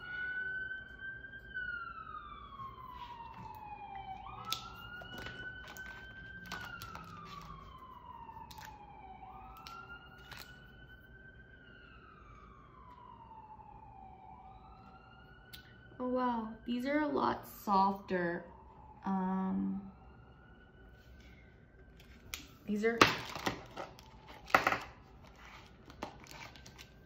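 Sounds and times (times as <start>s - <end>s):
emergency siren wailing: 0.0s - 27.0s.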